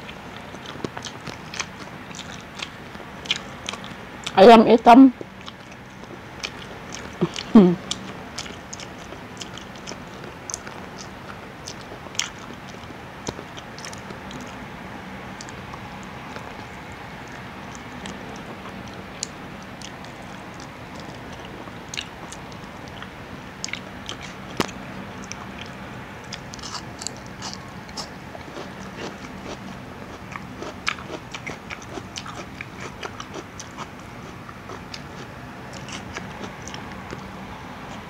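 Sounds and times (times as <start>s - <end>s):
chewing crispy fried food: 0.0s - 4.4s, 5.1s - 38.0s.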